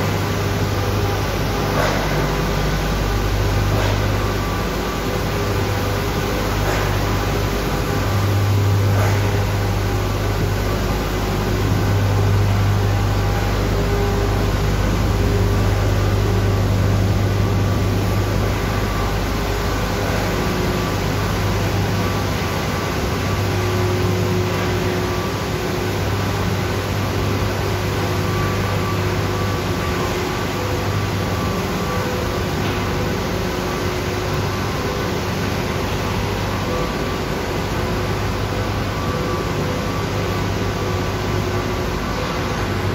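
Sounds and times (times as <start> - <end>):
power plant machinery drone: 0.0 - 42.9.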